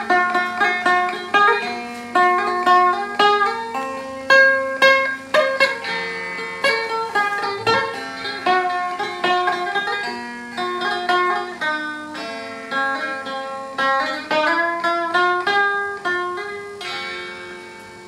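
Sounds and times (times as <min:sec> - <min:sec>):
plucked lute melody: 0:00.0 - 0:18.0.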